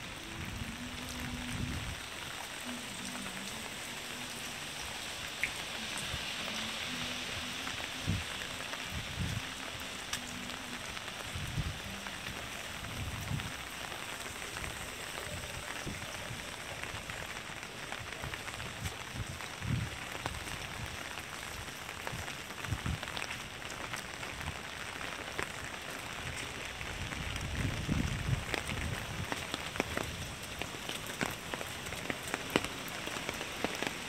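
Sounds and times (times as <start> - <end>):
rain on wet pavement: 0.0 - 34.0.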